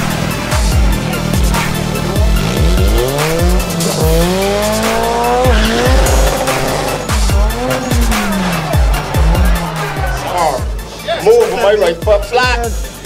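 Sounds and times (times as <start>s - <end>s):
car engine revving: 0.0s - 11.0s
hip-hop music with bass beat: 0.0s - 13.0s.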